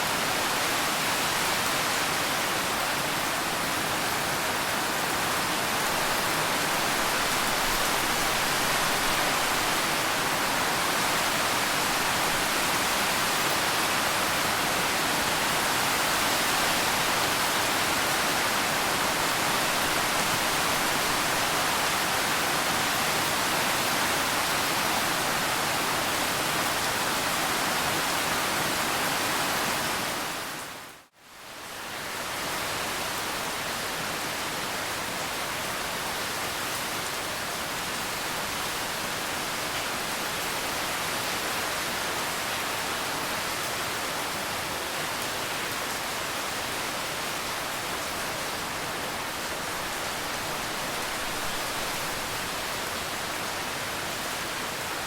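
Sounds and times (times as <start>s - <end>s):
steady dense rain: 0.0s - 55.0s.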